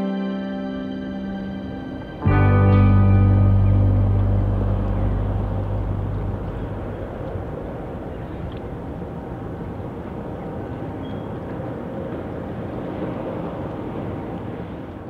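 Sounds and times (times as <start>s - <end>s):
faint steady tones: 0.0s - 15.0s
vessel engines rumbling: 0.6s - 15.0s.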